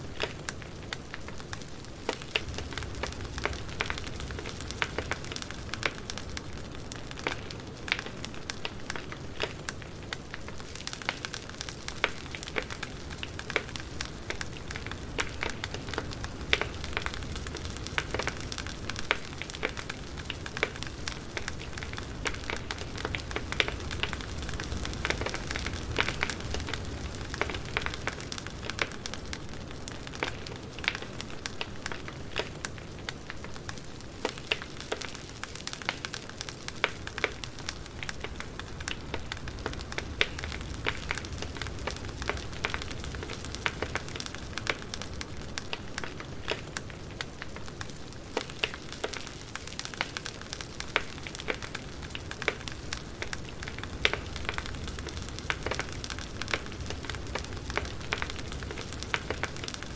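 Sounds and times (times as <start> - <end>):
campfire crackling: 0.0 - 59.9
hiss and rumble of flames: 0.0 - 59.9.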